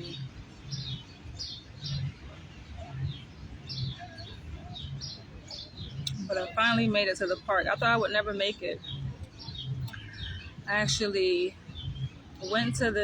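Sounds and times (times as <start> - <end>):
low dull thuds: 0.0 - 13.0
small birds chirping: 0.0 - 13.0.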